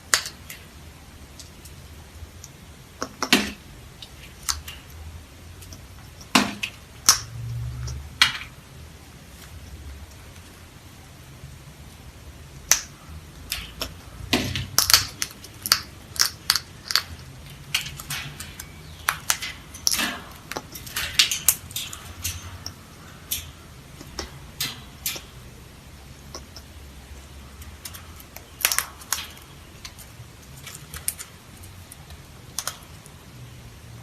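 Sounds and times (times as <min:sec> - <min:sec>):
sharp clicks and snaps: 0:00.0 - 0:08.6, 0:12.6 - 0:33.6.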